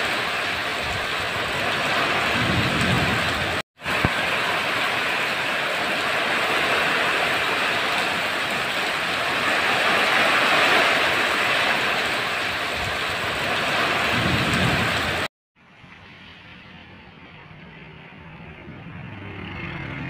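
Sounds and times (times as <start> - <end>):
heavy rain in strong wind: 0.0 - 18.8.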